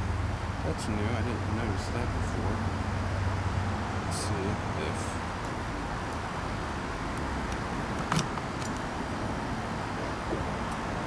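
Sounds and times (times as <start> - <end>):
traffic-like background noise: 0.0 - 11.0.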